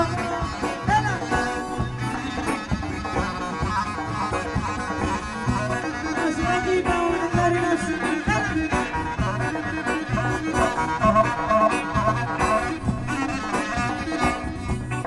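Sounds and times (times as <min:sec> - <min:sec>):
live folk band with clarinet: 0:00.0 - 0:15.0.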